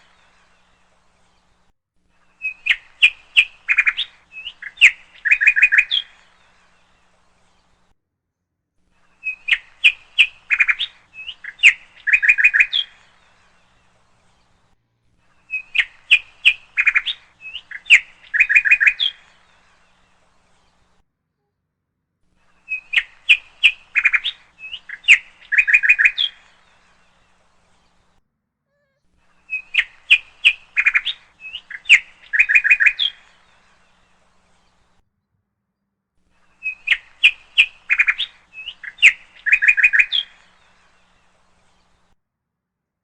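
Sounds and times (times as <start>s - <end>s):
songbird chirping and trilling: 2.2s - 7.9s, 9.0s - 21.0s, 22.5s - 28.1s, 28.7s - 35.0s, 36.4s - 42.1s.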